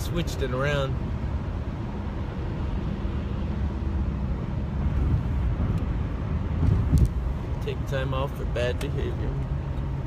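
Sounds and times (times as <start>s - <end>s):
road noise rumble: 0.0s - 10.0s.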